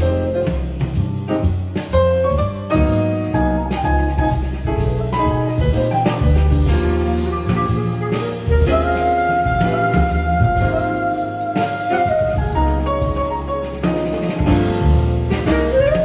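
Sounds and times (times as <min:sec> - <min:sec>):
jazz music with bass and drums: 0:00.0 - 0:16.0.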